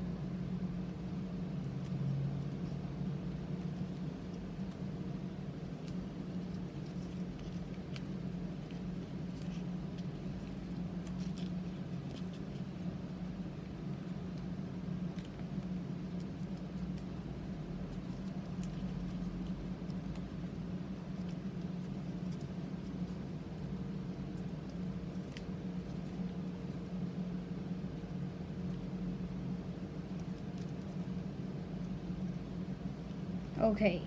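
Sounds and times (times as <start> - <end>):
steady low hum: 0.0 - 34.0
paper rustling and crinkling: 0.5 - 33.6.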